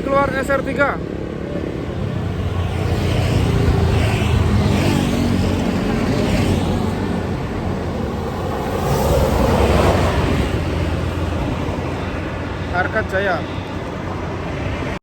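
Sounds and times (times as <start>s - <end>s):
bus passing: 0.0s - 15.0s.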